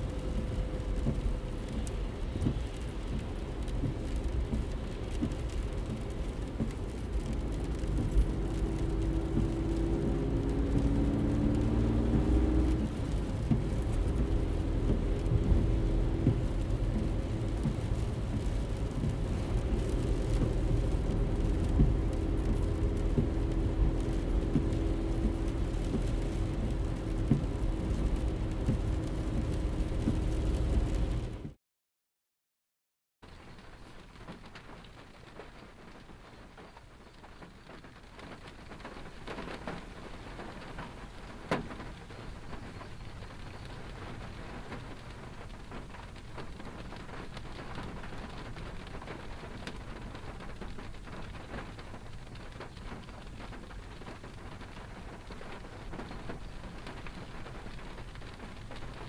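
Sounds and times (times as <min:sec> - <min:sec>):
car engine and road rumble: 0:00.0 - 0:31.6, 0:33.2 - 0:59.0
small knocks from the road: 0:00.3 - 0:27.6, 0:28.6 - 0:30.8, 0:33.2 - 0:59.0.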